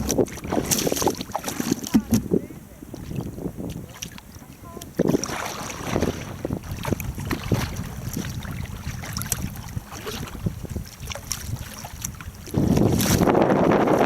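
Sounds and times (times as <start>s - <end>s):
water splashing: 0.0s - 14.0s
wind buffeting microphone: 0.0s - 14.0s.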